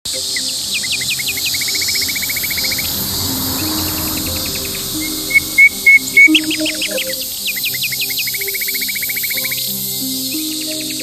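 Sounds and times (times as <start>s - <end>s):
bird calling: 0.1s - 11.0s
cicadas shrilling: 0.1s - 11.0s.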